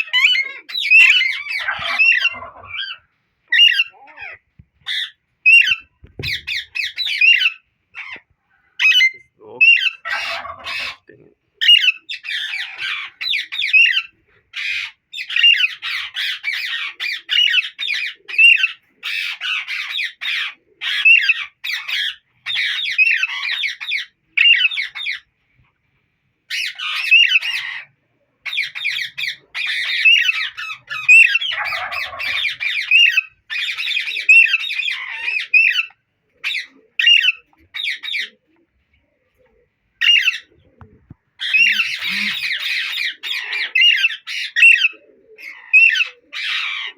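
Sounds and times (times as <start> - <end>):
parakeets squawking: 0.0 - 25.3, 26.5 - 38.4, 40.0 - 40.6, 41.4 - 46.9.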